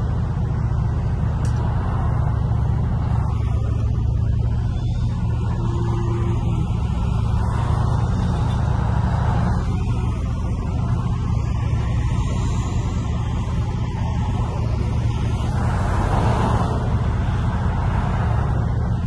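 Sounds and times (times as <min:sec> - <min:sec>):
car engine drone from cabin: 0:00.0 - 0:19.0.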